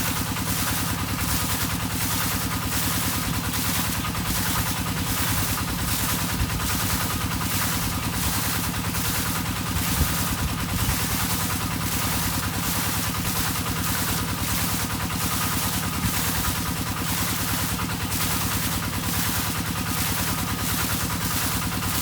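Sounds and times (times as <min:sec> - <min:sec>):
water pump engine running: 0:00.0 - 0:22.0.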